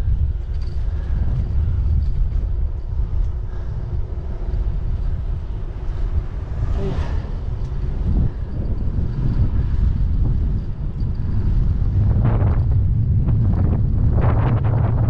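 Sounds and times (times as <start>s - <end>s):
bicycle road noise: 0.0s - 15.0s
wind rumbling on microphone: 0.0s - 15.0s.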